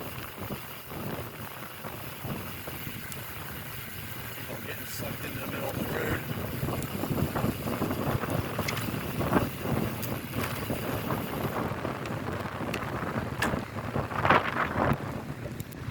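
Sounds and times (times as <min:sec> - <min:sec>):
small clicks and ticks: 0:00.0 - 0:13.7, 0:14.9 - 0:15.9
wind buffeting microphone: 0:00.0 - 0:15.9.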